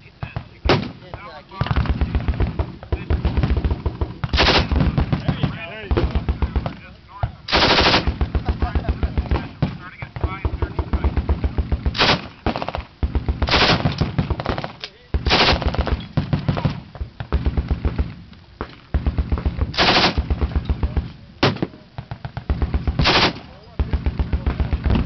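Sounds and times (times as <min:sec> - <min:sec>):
machine gun firing bursts: 0:00.4 - 0:06.8, 0:07.5 - 0:18.2, 0:18.9 - 0:25.0.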